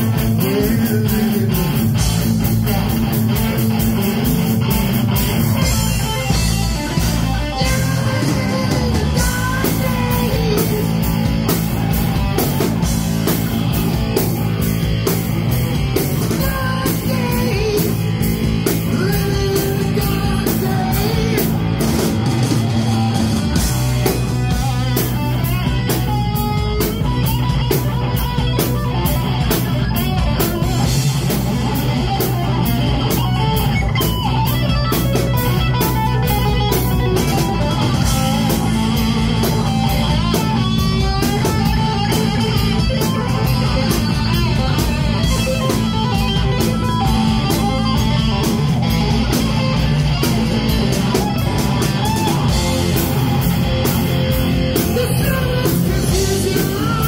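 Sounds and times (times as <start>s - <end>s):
distorted electric guitars: 0.0s - 57.0s
drum kit fast rhythm: 0.0s - 57.0s.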